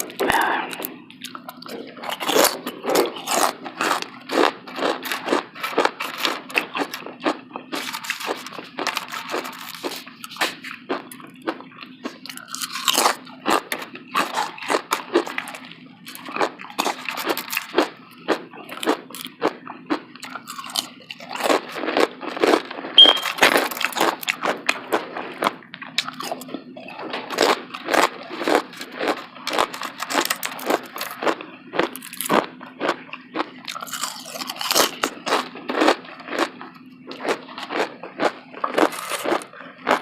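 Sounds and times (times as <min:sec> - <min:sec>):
chewing crisp food: 0:00.0 - 0:40.0.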